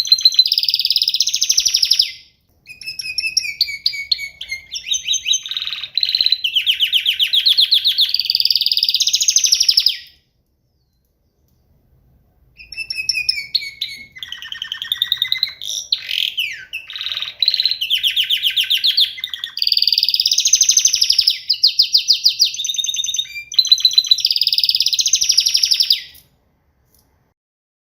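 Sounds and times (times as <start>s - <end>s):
canary singing trills: 0.0s - 11.8s, 12.6s - 26.2s.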